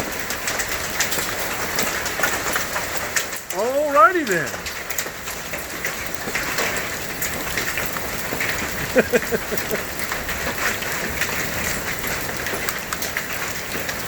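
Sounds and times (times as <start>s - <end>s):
hail and heavy rain pelting: 0.0s - 14.0s.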